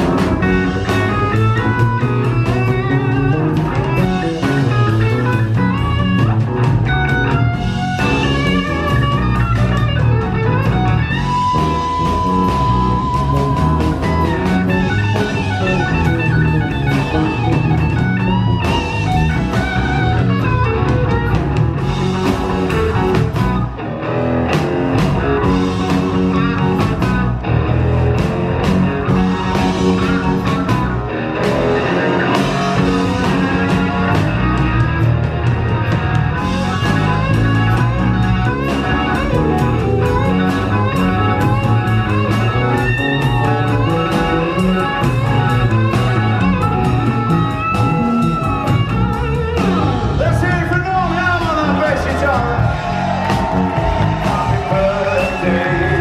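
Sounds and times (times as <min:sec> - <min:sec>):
electric guitar: 0:00.0 - 0:56.0
live blues-rock band playing: 0:00.0 - 0:56.0.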